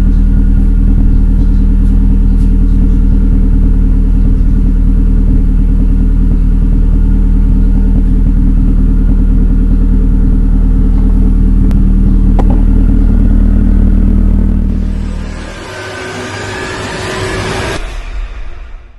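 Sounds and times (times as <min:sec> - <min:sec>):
car engine running: 0:00.0 - 0:17.8.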